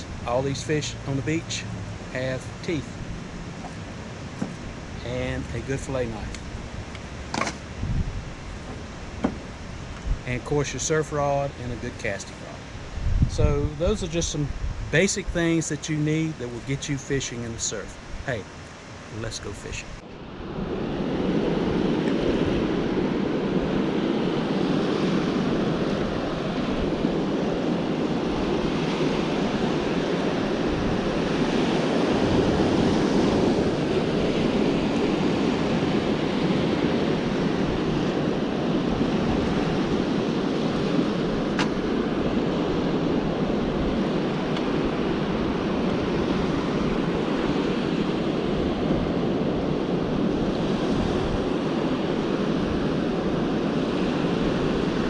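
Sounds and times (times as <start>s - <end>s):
ocean surf washing: 0.0s - 55.0s
wind buffeting microphone: 2.8s - 10.6s, 12.6s - 15.6s, 20.1s - 55.0s.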